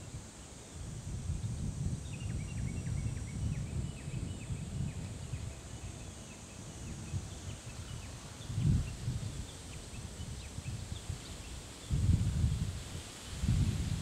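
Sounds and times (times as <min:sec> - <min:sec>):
faint high hiss: 0:00.0 - 0:14.0
wind buffeting microphone: 0:00.0 - 0:14.0.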